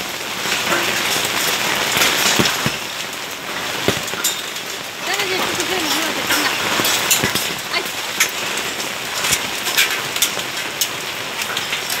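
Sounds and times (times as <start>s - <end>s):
hailstones hitting: 0.0s - 12.0s
heavy rain hiss: 0.0s - 12.0s.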